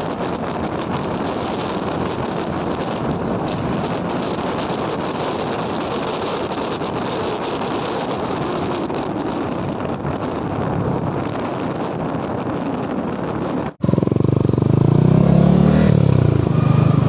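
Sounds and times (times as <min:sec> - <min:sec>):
steady rushing noise: 0:00.0 - 0:15.2
wind buffeting microphone: 0:00.0 - 0:17.0.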